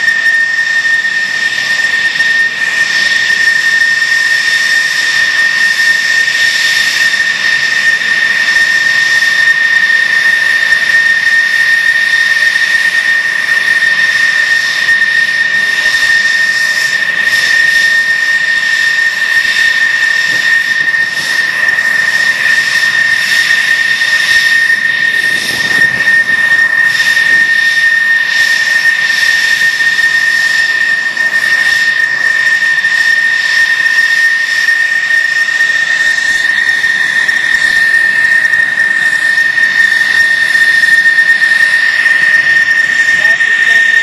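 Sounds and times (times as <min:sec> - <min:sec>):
jet engine whining: 0:00.0 - 0:44.0.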